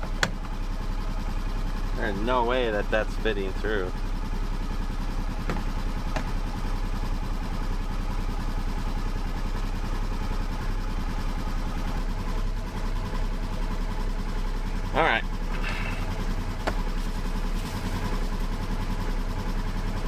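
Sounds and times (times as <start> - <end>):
utility vehicle engine idling: 0.0 - 20.0.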